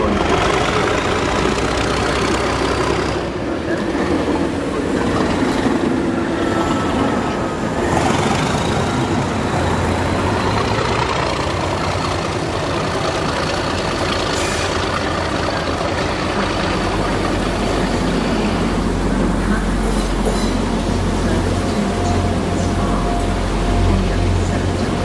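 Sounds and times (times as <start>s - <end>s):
diesel locomotive engine running: 0.0s - 25.0s
train wheels rumbling on rails: 0.0s - 25.0s.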